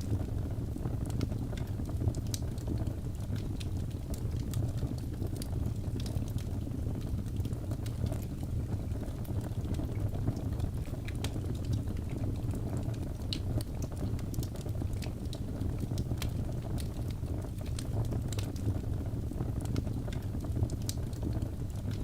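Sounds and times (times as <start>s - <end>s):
fire crackling and popping: 0.0s - 22.0s
low rush of flame: 0.0s - 22.0s.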